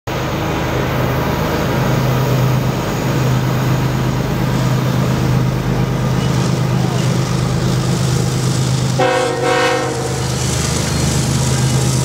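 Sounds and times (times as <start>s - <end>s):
diesel locomotive engine drone: 0.1s - 12.0s.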